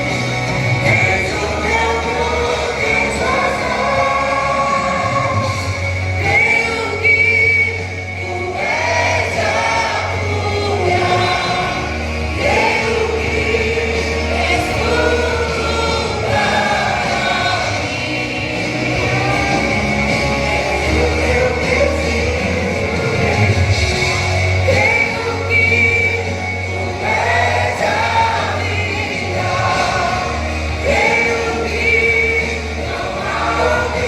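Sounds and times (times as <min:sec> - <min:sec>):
group singing gospel in harmony: 0:00.0 - 0:34.0.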